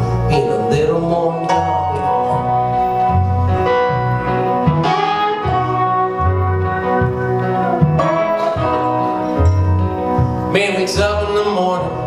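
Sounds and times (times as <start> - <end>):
guitars playing: 0.0 - 12.0
plucked upright bass: 0.0 - 12.0.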